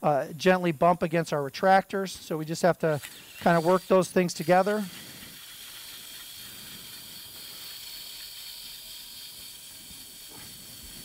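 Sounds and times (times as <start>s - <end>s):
surgical reamer high hiss: 0.3s - 11.0s.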